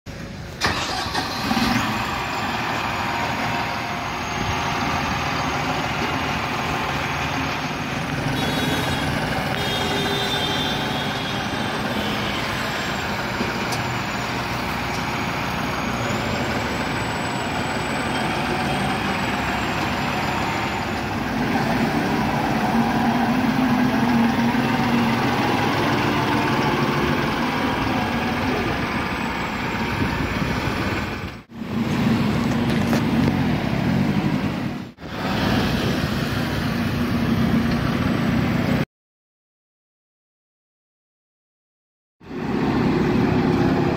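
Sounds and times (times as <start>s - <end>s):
tractor diesel engine running: 0.1s - 38.8s.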